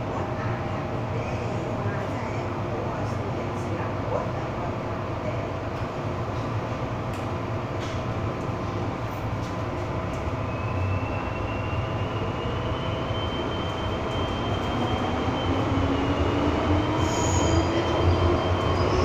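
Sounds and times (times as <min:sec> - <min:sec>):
rumble of train wheels: 0:00.0 - 0:19.0.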